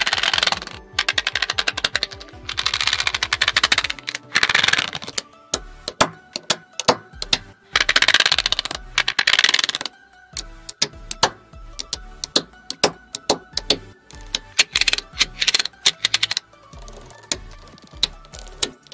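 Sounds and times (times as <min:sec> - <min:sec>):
magnetic balls clattering: 0:00.0 - 0:10.0, 0:10.7 - 0:18.9
background music with bass: 0:00.0 - 0:18.9
magnetic balls clicking: 0:00.0 - 0:18.9.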